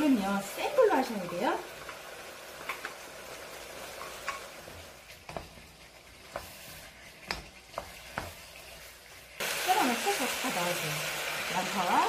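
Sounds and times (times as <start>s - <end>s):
sauce sizzling in frying pan: 0.0s - 12.0s.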